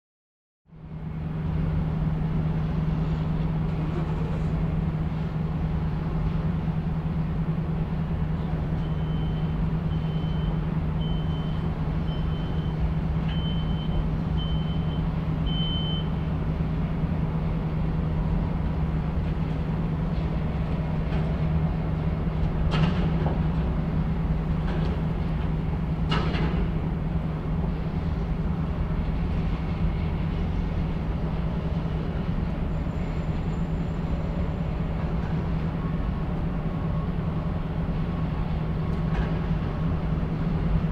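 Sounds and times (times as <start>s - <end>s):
low machinery hum: 0.7s - 40.9s.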